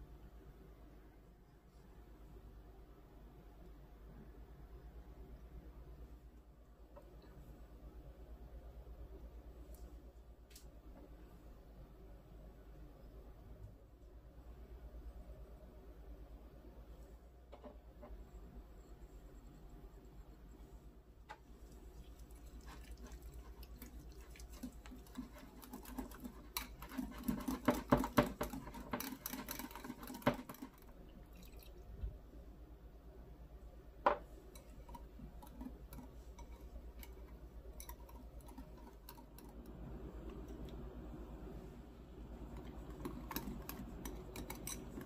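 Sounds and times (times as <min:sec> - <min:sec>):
low steady hum: 0:00.0 - 0:45.0.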